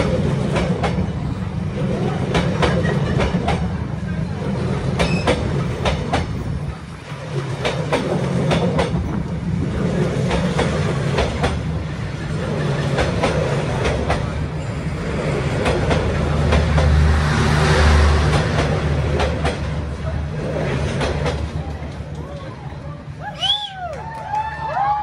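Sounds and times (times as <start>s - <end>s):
wheels clacking over rail joints: 0.0s - 22.9s
train coaches rumbling past: 0.0s - 25.0s.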